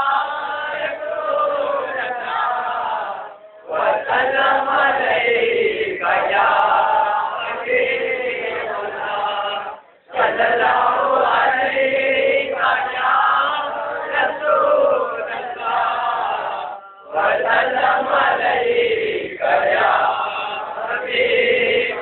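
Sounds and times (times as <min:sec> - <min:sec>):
group of voices chanting: 0:00.0 - 0:22.0.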